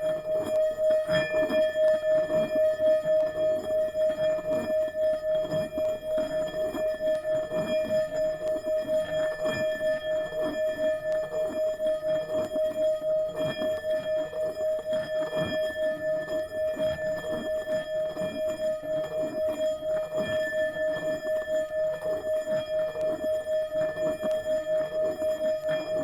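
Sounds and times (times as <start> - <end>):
singing bowl tone: 0.0 - 26.0.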